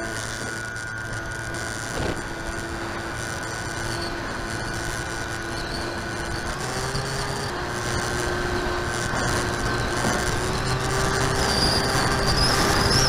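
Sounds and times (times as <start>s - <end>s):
electric motor and propeller: 0.0s - 13.0s.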